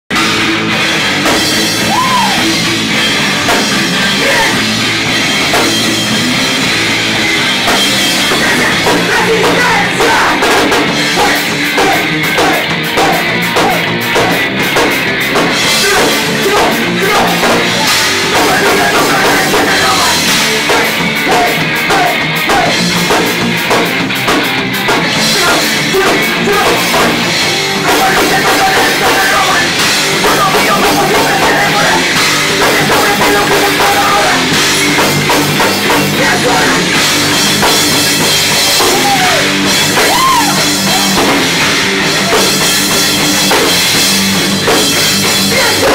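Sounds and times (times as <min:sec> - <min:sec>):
heavy metal band playing: 0:00.0 - 0:45.9.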